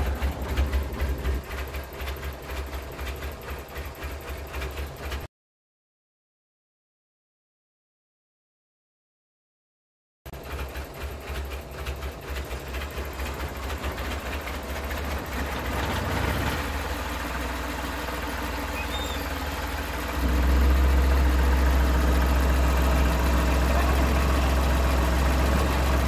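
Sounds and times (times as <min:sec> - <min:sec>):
car engine idling: 0:00.0 - 0:05.3, 0:10.3 - 0:26.0.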